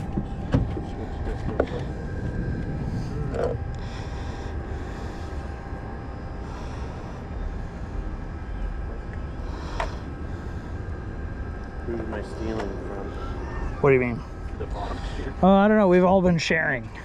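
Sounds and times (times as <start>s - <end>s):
boat motor rumbling: 0.0s - 17.0s.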